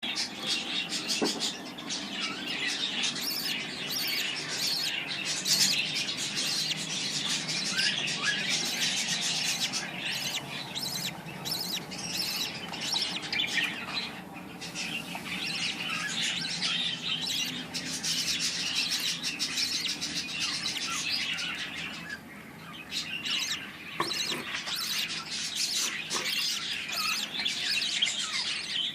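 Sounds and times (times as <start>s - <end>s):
budgerigars chirping and chattering: 0.0s - 28.9s.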